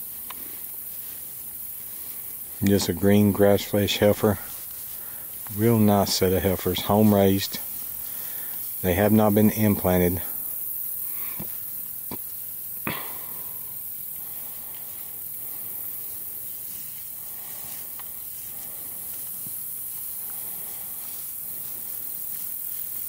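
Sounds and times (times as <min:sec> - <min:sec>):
insects hissing: 0:00.0 - 0:23.0.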